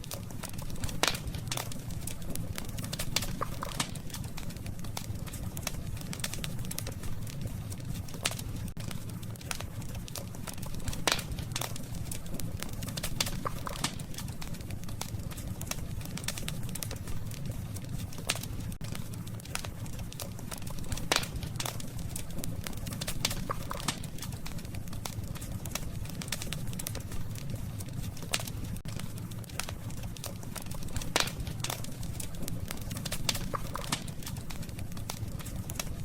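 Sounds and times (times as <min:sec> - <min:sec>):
campfire crackling and popping: 0:00.0 - 0:36.0
low rumble of flames: 0:00.0 - 0:36.0.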